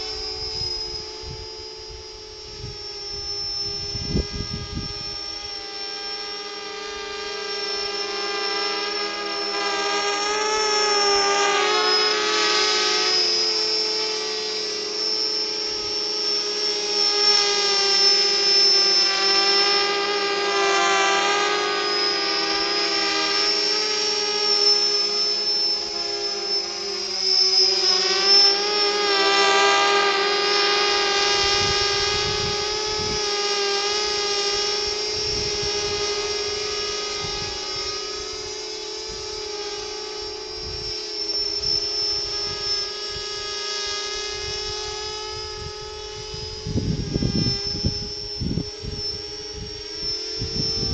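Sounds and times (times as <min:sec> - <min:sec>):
quadcopter motors buzzing whine: 0:00.0 - 0:50.9.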